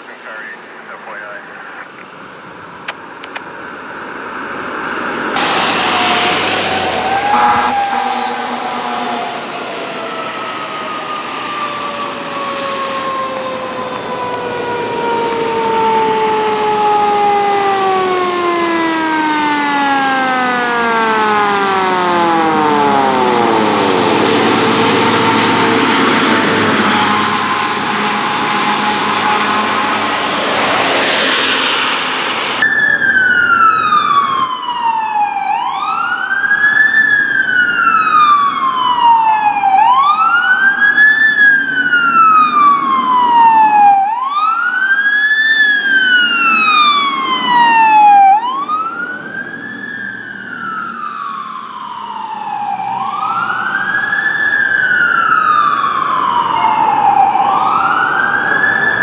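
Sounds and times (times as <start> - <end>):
rushing vehicle noise: 0.0 - 59.0
fire truck siren winding down: 4.1 - 59.0
electronic wail siren: 5.4 - 59.0.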